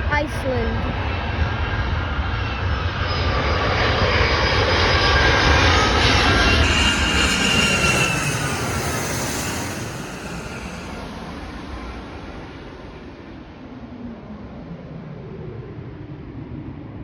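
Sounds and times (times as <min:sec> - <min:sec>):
jet engines flying past: 0:00.0 - 0:17.0.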